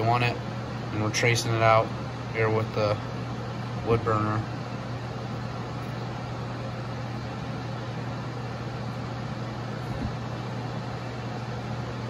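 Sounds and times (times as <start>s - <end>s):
constant low hum: 0.0s - 12.0s
heater fan rushing: 0.0s - 12.0s.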